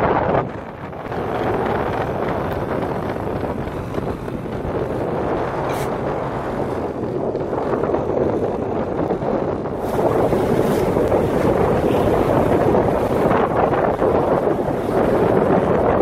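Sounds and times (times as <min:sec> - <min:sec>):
hull rushing through water: 0:00.0 - 0:16.0
wind buffeting microphone: 0:00.0 - 0:16.0.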